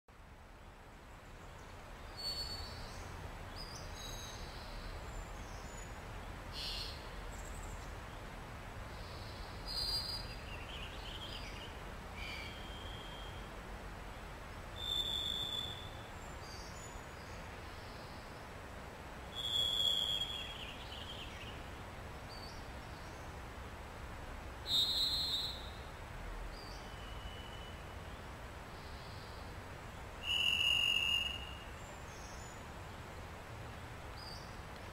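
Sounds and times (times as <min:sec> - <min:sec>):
low background hiss: 0:00.1 - 0:34.9.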